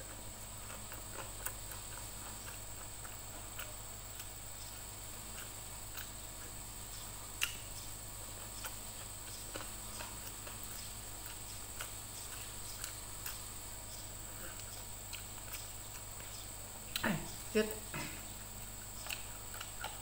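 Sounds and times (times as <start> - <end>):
wet chewing and lip smacks: 0.0 - 17.1, 18.3 - 20.0
faint high-pitched hum: 0.0 - 20.0.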